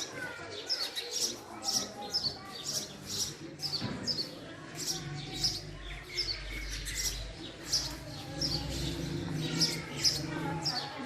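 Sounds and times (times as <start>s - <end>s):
sparrow chirping: 0.0s - 11.0s.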